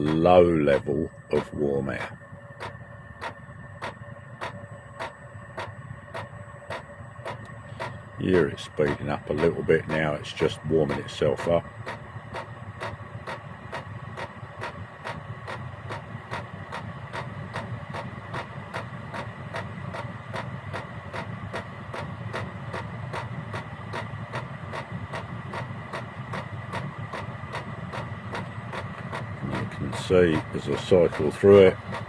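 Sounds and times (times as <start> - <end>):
fan whine: 0.0 - 32.0
fuel pump clicking: 0.0 - 32.0.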